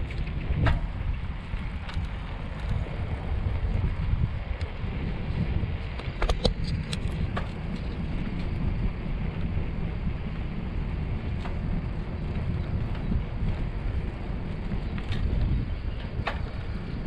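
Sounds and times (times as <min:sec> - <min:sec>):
bicycle tyres rolling: 0:00.0 - 0:17.0
wind noise on microphone: 0:00.0 - 0:17.0.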